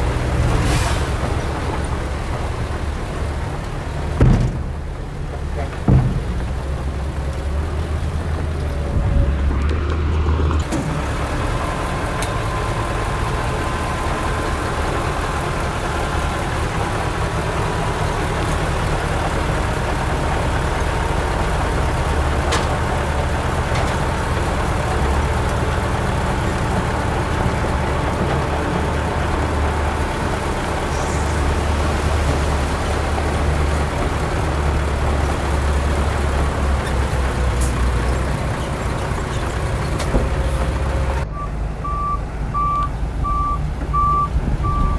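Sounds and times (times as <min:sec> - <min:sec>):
diesel machinery rumbling: 0:00.0 - 0:44.9.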